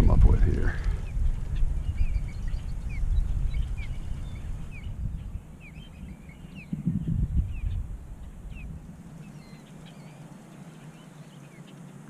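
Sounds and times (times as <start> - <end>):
low rumble: 0.0 - 10.2
small birds chirping: 0.0 - 12.0.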